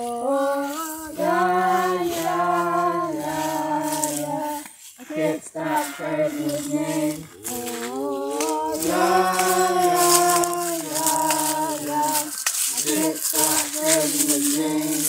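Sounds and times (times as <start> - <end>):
person singing gospel song: 0.0 - 15.0.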